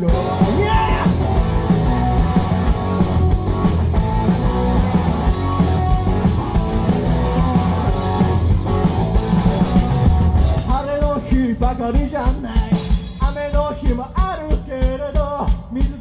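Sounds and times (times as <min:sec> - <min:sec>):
electric guitar: 0:00.0 - 0:13.2
steady drum beat: 0:00.0 - 0:16.0.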